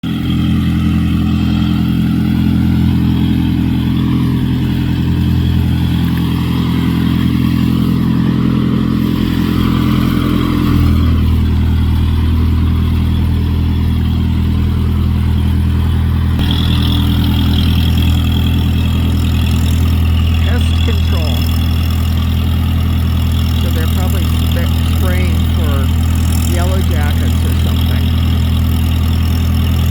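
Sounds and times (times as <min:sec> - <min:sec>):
truck engine drone: 0:00.0 - 0:29.9.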